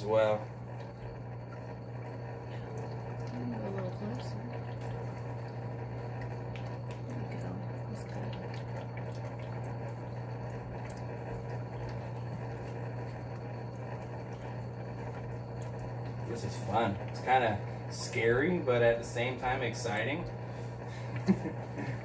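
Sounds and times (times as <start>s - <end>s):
aquarium equipment hum: 0.0s - 22.0s
running water: 0.0s - 22.0s.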